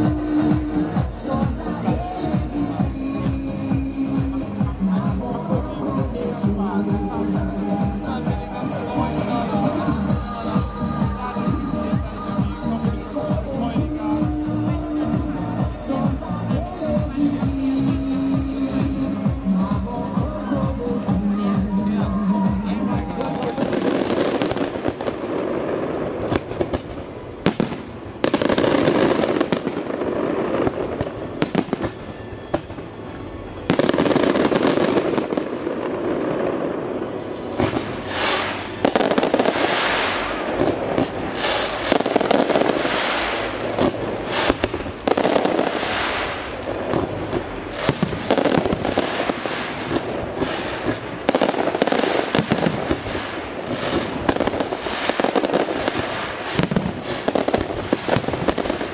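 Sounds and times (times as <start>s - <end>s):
firework bursts banging and crackling: 0.0s - 58.9s.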